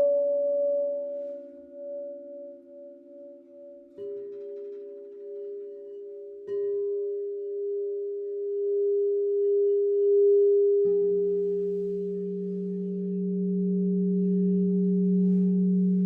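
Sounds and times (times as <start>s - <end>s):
crystal singing bowls ringing: 0.0s - 16.0s
lower-pitched singing bowl: 0.0s - 16.0s.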